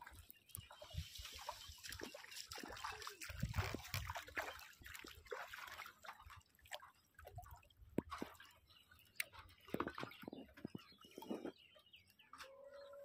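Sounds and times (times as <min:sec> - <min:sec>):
water splashing and dripping: 0:00.0 - 0:11.5.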